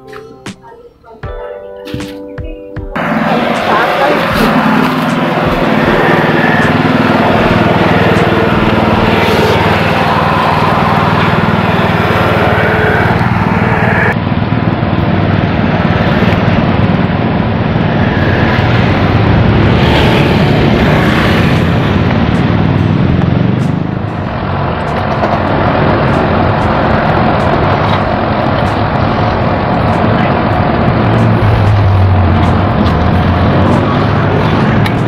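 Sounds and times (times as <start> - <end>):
road noise: 3.0 - 35.0.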